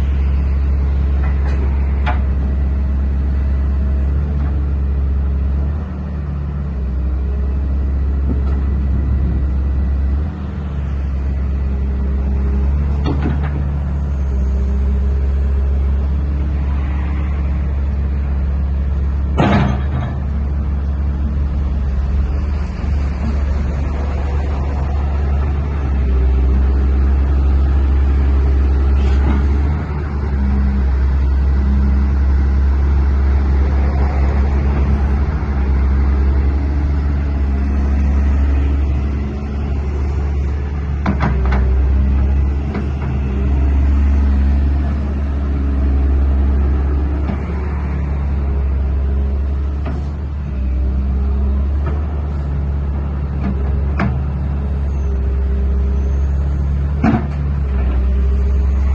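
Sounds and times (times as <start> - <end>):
excavator diesel engine droning: 0.0 - 58.9.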